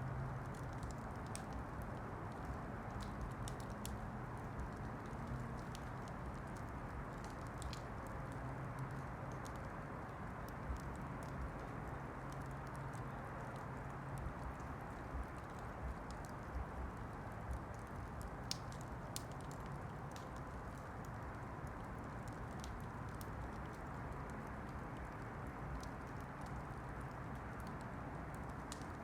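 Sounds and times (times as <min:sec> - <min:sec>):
campfire crackling and popping: 0:00.1 - 0:29.0.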